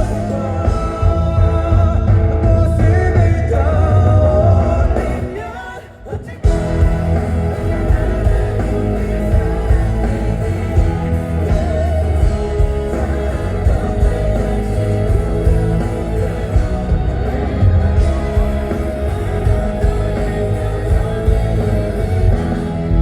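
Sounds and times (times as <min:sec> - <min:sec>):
live rock band playing: 0:00.0 - 0:05.8, 0:06.4 - 0:23.0.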